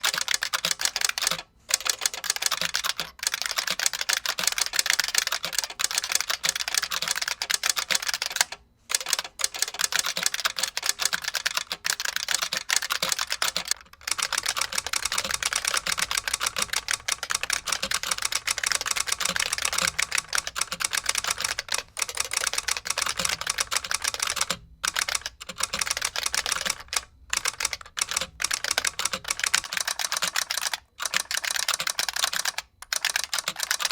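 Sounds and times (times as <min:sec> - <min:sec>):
keyboard keys clicking: 0:00.0 - 0:33.9.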